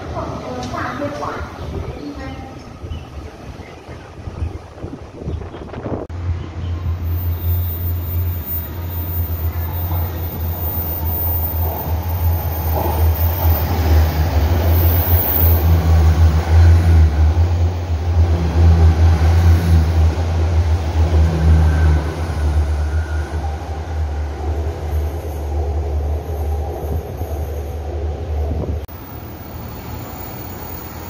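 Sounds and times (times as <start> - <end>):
train passing at speed: 0.0 - 31.0.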